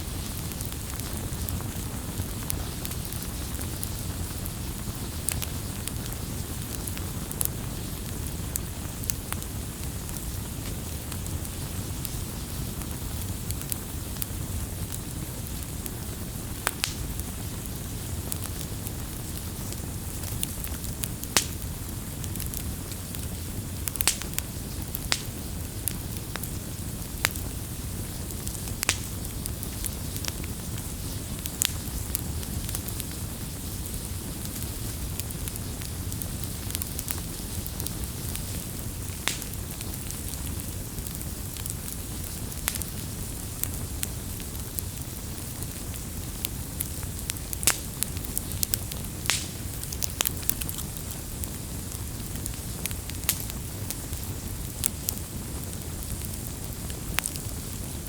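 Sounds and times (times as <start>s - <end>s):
burning wood crackling pops: 0.0s - 58.0s
campfire flames rumbling: 0.0s - 58.0s.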